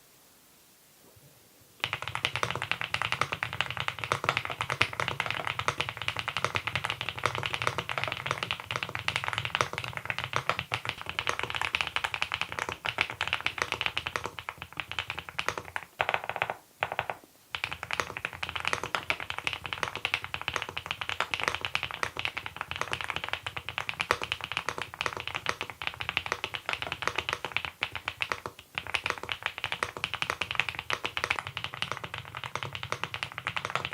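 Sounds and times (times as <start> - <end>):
mechanical keyboard typing: 1.8 - 33.9.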